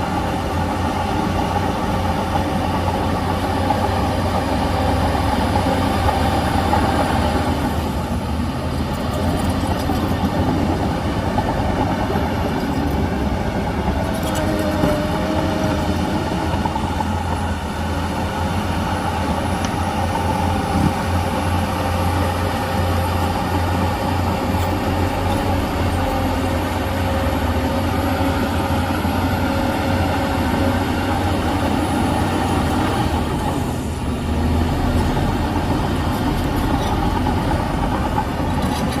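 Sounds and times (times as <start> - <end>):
heavy diesel engine under load: 0.0 - 39.0.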